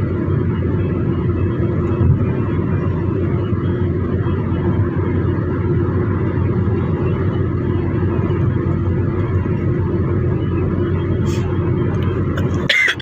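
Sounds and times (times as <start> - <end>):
car engine drone: 0.0 - 13.0
road noise inside car: 0.0 - 13.0.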